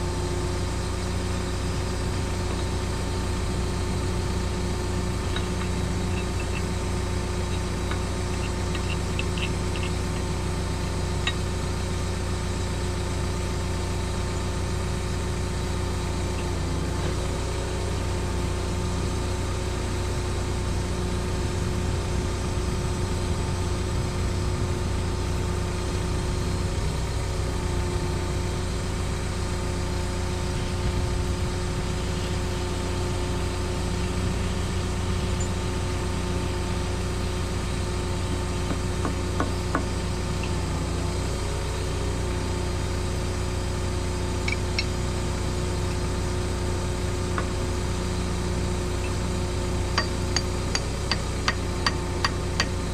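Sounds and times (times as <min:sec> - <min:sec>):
excavator diesel engine idling: 0:00.0 - 0:52.9.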